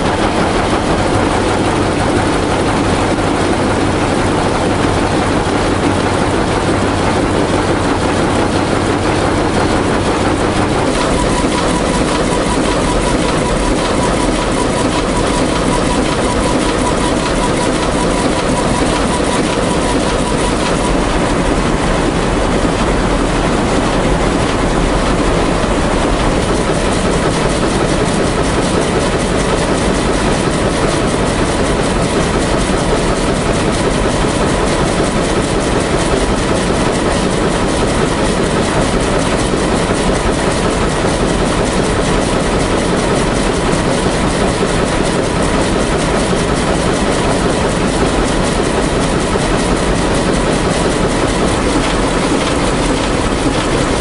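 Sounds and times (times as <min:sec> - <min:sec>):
weaving loom clattering: 0:00.0 - 0:54.0.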